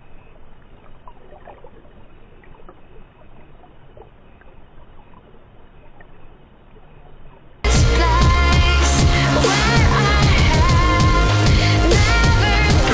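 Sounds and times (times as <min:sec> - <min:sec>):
underwater stream rush: 0:00.0 - 0:12.9.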